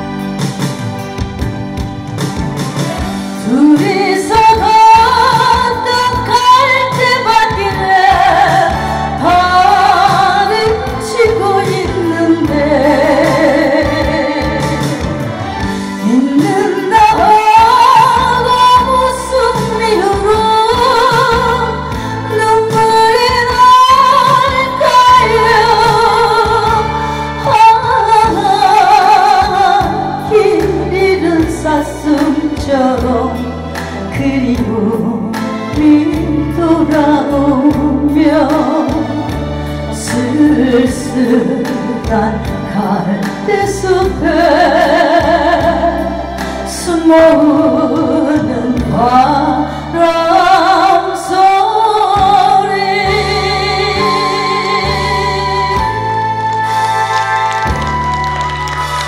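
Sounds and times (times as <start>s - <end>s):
musical accompaniment: 0.0s - 59.0s
woman singing with vibrato: 3.2s - 59.0s.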